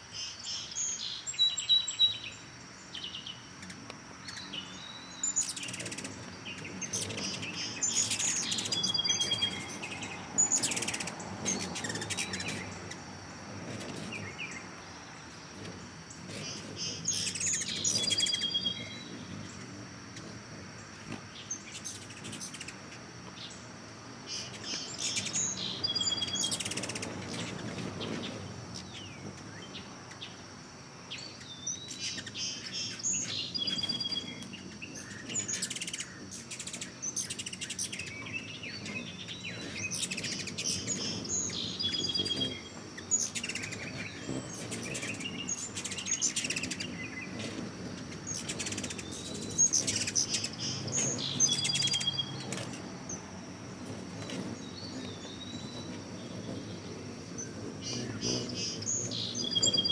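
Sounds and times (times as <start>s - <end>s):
birds chirping and singing: 0.2s - 22.8s, 24.3s - 30.4s, 31.1s - 59.9s.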